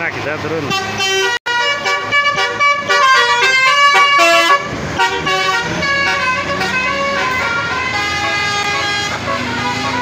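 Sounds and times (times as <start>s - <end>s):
bus engine rumbling: 0.0s - 10.0s
musical air horn playing a tune: 0.7s - 10.0s.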